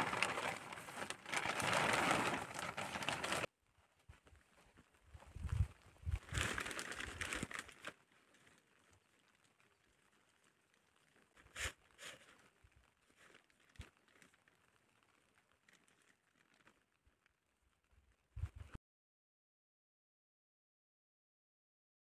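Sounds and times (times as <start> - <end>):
plastic crinkling rustle: 0.0 - 18.6.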